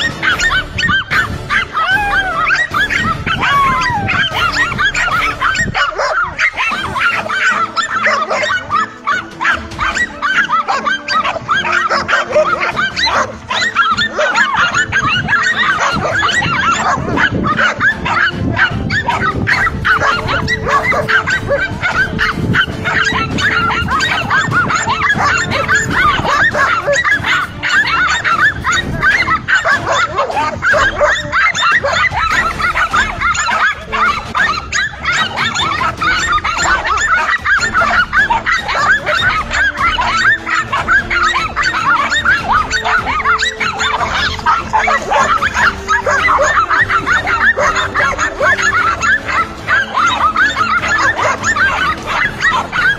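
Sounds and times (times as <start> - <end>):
dogs barking: 0.0 - 52.9.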